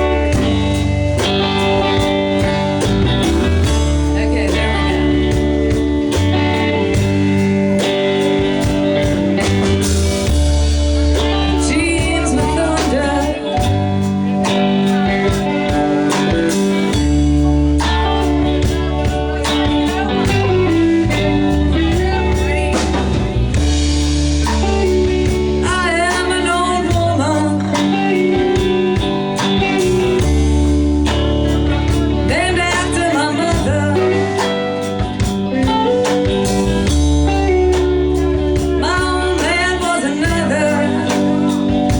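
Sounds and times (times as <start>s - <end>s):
bass guitar: 0.0s - 41.9s
drum kit: 0.0s - 41.9s
electric guitar: 0.0s - 41.9s
person singing: 0.0s - 41.9s.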